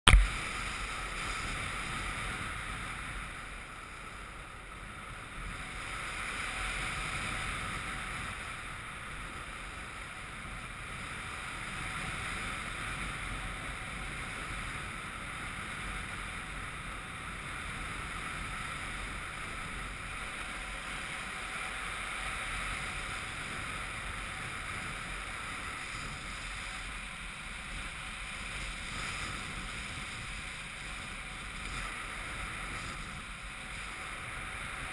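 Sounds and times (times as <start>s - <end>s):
wind rushing over microphone: 0.1s - 34.9s.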